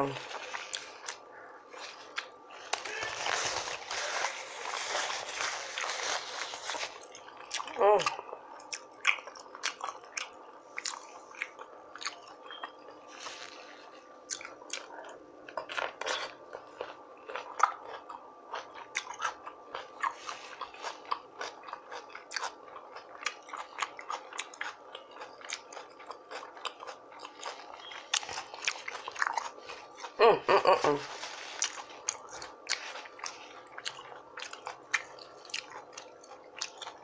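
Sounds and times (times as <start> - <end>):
crunching bites of food: 0.2 - 30.2, 30.9 - 37.0
wet chewing: 0.2 - 30.2, 30.9 - 37.0.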